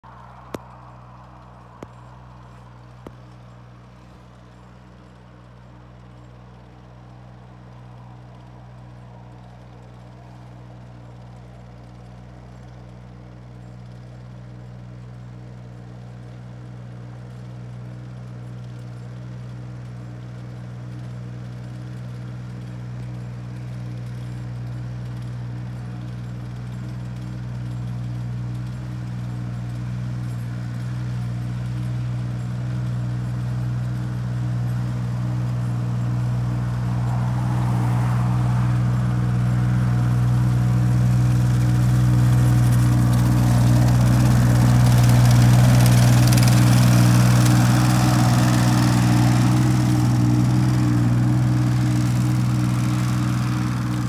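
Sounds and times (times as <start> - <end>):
skid-steer loader engine running: 0.0 - 54.0.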